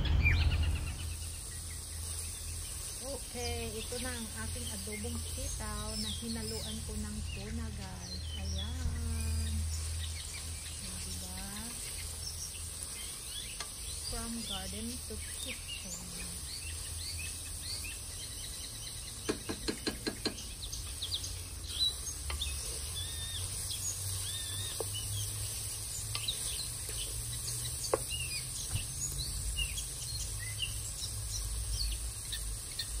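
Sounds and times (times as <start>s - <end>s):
birds chirping: 0.0s - 33.0s
insects buzzing: 0.0s - 33.0s.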